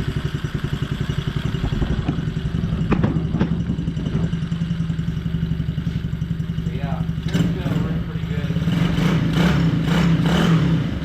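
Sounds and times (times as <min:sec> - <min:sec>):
dirt bike engine idling: 0:00.0 - 0:09.9.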